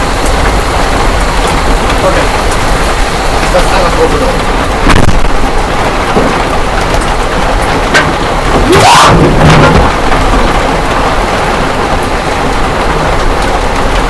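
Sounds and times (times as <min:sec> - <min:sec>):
hail and rain pelting: 0:00.0 - 0:14.0.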